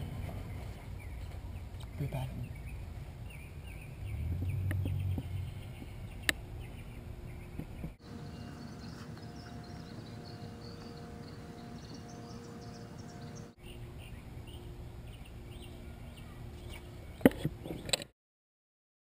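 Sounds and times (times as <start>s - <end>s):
outdoor background noise: 0.0s - 18.1s.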